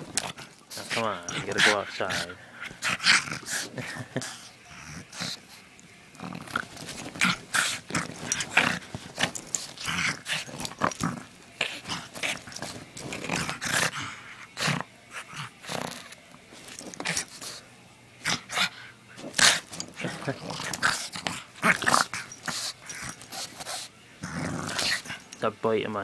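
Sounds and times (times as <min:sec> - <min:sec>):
bedding rustling: 0:00.0 - 0:04.5, 0:05.1 - 0:25.6
dog growling: 0:00.0 - 0:25.4.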